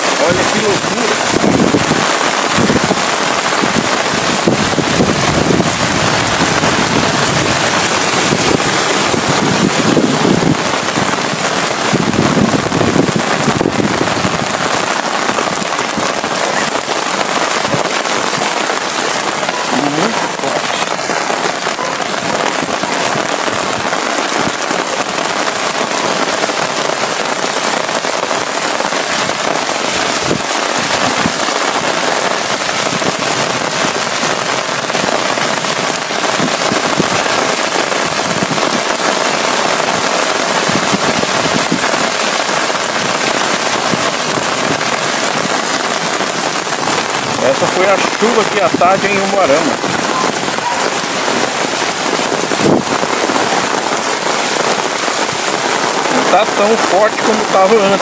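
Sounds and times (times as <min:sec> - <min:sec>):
heavy rain on flooded street: 0:00.0 - 0:58.0.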